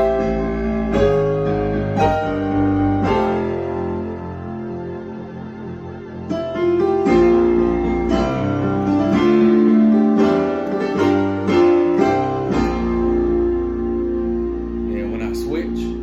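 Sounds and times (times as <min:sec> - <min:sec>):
keyboard playing chords: 0:00.0 - 0:16.0.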